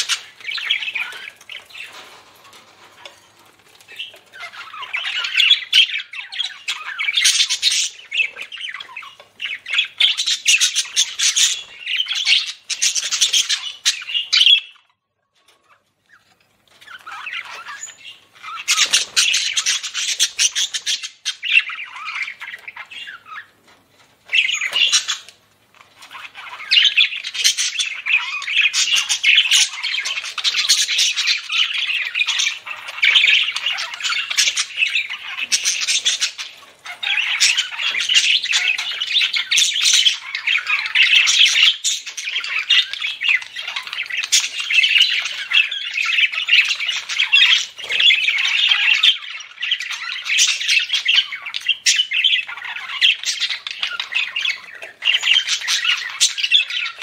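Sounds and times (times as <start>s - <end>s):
budgerigars chattering: 0.0s - 2.0s, 2.6s - 14.8s, 16.2s - 23.6s, 24.3s - 57.0s.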